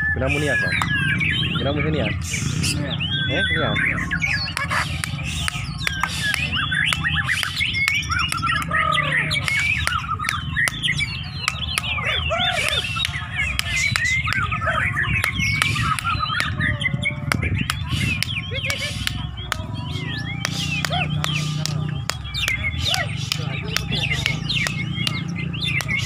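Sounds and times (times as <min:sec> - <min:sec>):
birds singing whistles: 0:00.0 - 0:26.0.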